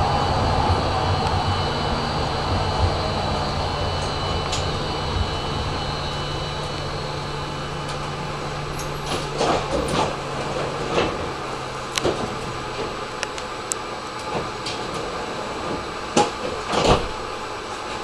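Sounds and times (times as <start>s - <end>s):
thin high whine: 0.0s - 18.0s
tram electric hum: 0.0s - 18.0s.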